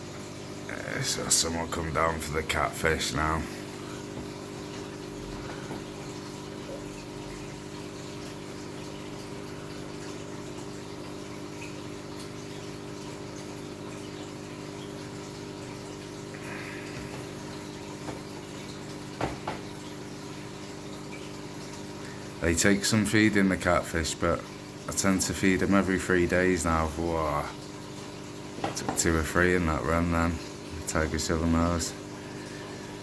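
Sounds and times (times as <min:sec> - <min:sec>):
aquarium pump hum: 0:00.0 - 0:33.0.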